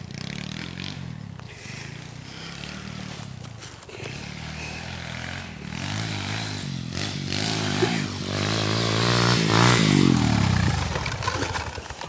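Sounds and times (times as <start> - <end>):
motorbike engine revving hard: 0.0 - 3.3, 4.1 - 12.0.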